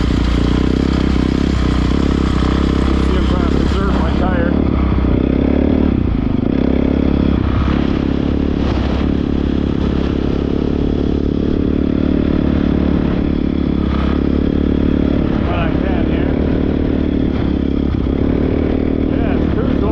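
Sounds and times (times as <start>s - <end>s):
dirt bike engine running: 0.0s - 19.9s.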